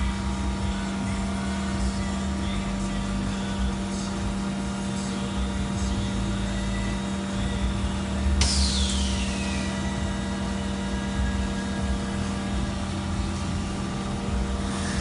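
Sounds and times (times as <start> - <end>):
machine humming and rumbling: 0.0 - 15.0.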